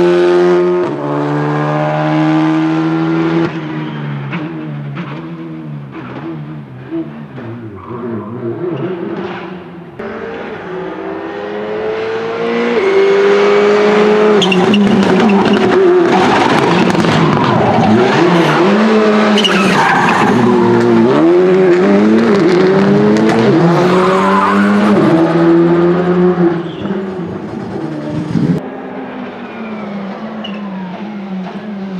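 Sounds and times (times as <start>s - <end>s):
rally car engine: 0.0s - 31.9s
tyres skidding on tarmac: 2.9s - 31.9s.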